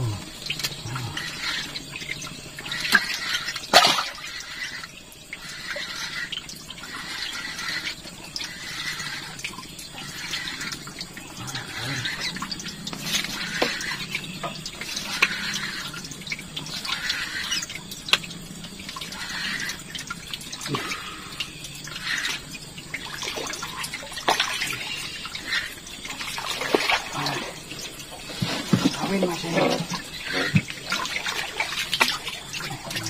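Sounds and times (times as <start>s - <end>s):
water splashing and trickling: 0.0s - 33.0s.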